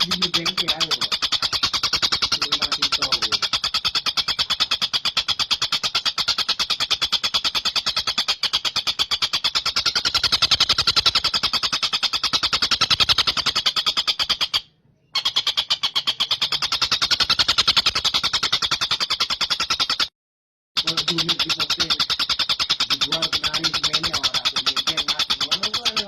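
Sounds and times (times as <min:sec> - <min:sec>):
kingfisher rattling trill: 0:00.0 - 0:20.1, 0:20.8 - 0:26.0.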